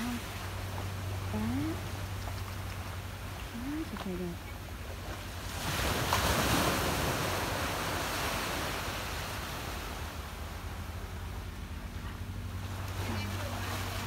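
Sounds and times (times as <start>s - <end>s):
sea waves breaking on shore: 0.0s - 14.0s.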